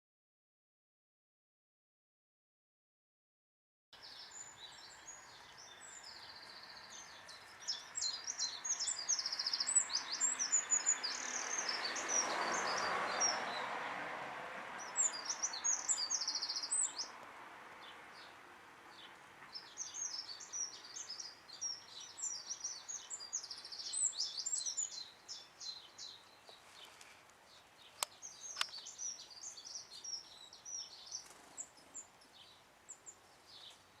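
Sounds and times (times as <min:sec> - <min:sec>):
songbird twittering: 0:04.0 - 0:13.7, 0:14.8 - 0:17.2, 0:17.8 - 0:34.0.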